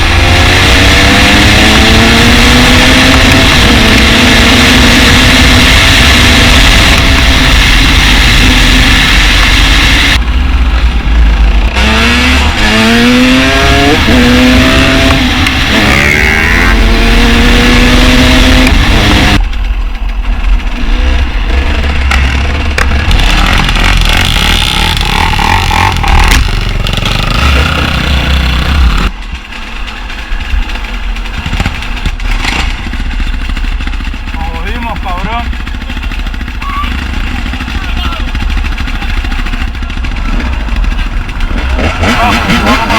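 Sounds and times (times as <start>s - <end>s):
dirt bike engine revving: 0.0s - 19.6s, 20.2s - 29.2s, 30.6s - 42.9s.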